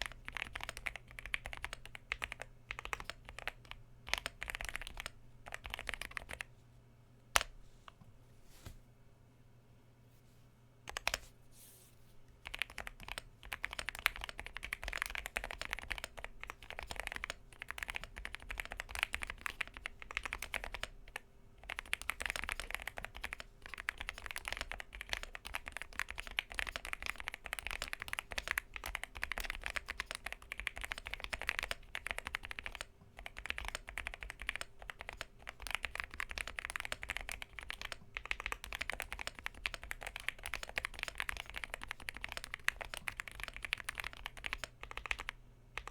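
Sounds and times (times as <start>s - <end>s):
mechanical keyboard typing: 0.0s - 6.5s, 10.9s - 11.2s, 12.4s - 45.9s.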